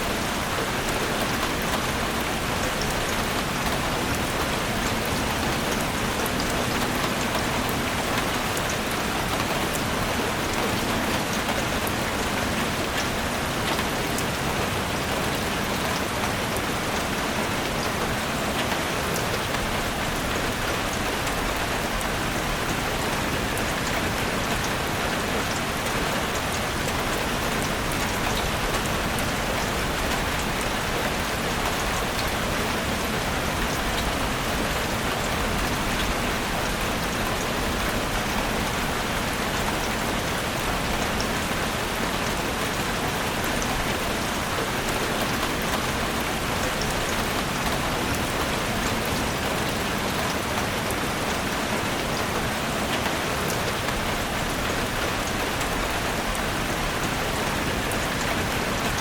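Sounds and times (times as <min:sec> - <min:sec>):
raindrops pattering on leaves: 0:00.0 - 0:59.0.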